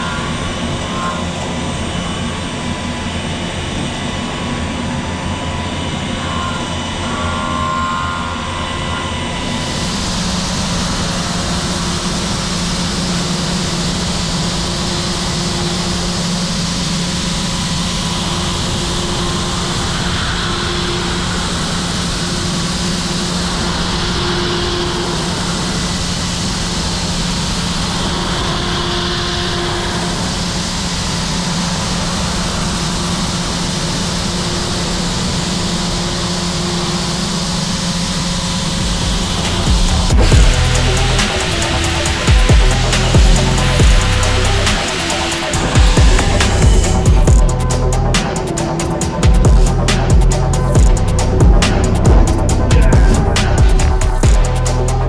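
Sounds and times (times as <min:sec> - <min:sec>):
low spindle hum: 0:00.0 - 0:55.0
machining center milling metal: 0:00.0 - 0:55.0.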